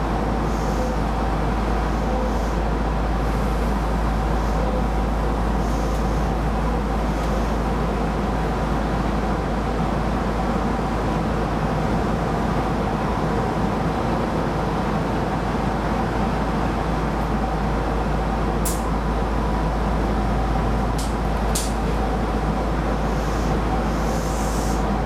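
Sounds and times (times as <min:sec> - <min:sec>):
train rumble on track: 0:00.0 - 0:25.0.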